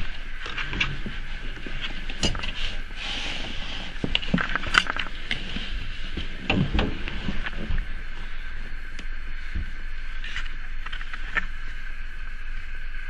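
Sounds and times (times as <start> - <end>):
rustling and handling noise: 0.0 - 13.0
steady hiss: 0.0 - 13.0.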